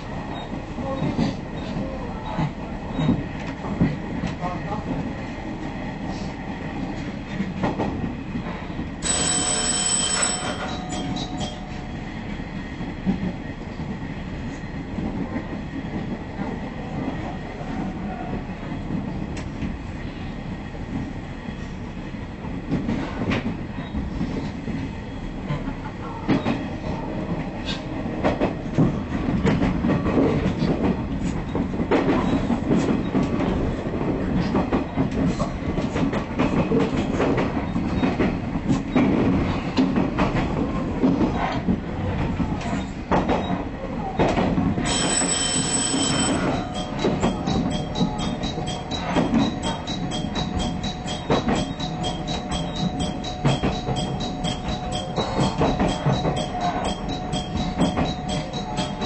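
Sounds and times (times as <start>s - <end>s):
railcar engine and wheel rumble: 0.0s - 59.0s
rail-joint clacks: 0.2s - 5.7s, 6.8s - 14.1s, 22.4s - 59.0s.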